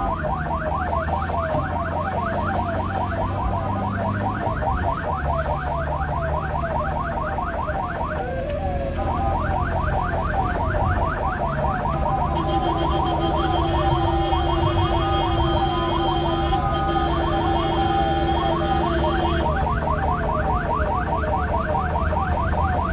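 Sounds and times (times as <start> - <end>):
ambulance siren yelping: 0.0 - 22.9
moving vehicle rumble: 0.0 - 22.9.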